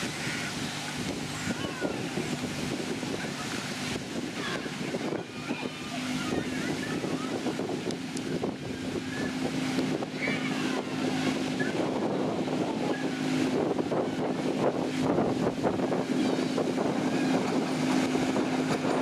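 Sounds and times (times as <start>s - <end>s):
locomotive engine hum: 0.0s - 19.0s.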